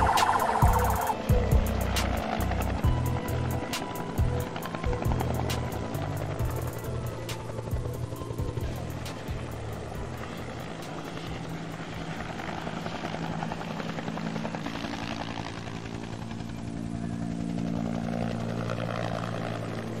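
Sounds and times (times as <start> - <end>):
helicopter engine drone: 0.0 - 20.0
helicopter rotor chop: 0.0 - 20.0.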